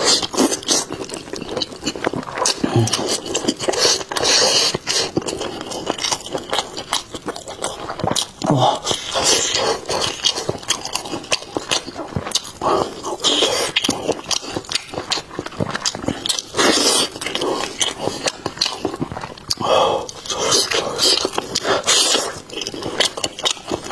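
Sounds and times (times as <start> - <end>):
meat tearing: 0.0 - 23.9
wet chewing mouth clicks: 0.0 - 23.9.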